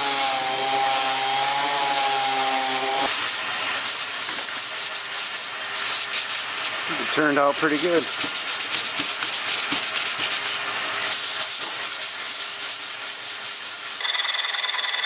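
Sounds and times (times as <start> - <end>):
sandpaper sanding wood: 0.0 - 14.0.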